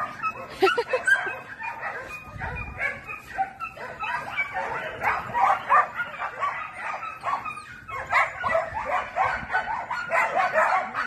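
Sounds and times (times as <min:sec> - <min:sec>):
dogs yapping and barking: 0:00.0 - 0:11.0.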